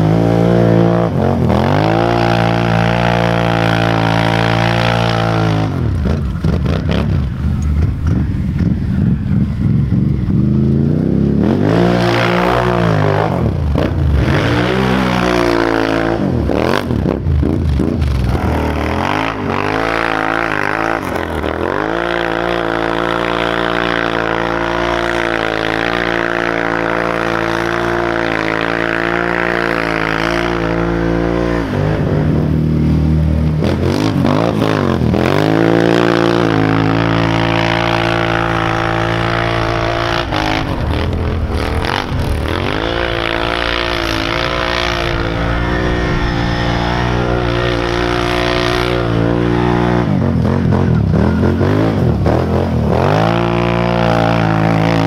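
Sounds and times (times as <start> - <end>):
atv engine at high revs: 0.0 - 55.0
tires spinning through snow: 0.0 - 55.0.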